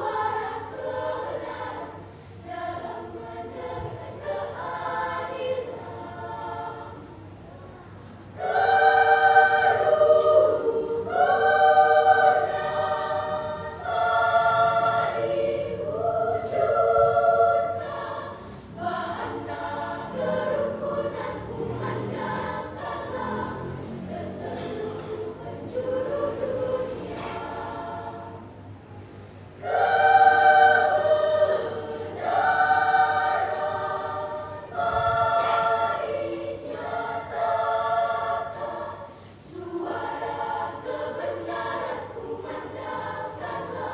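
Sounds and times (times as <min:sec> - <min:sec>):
children's choir singing: 0:00.0 - 0:43.9.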